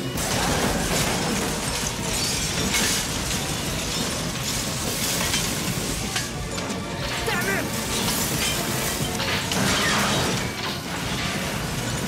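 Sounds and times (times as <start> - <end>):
crashing and breaking clatter: 0.0 - 12.0
sharp smashes: 0.1 - 12.0.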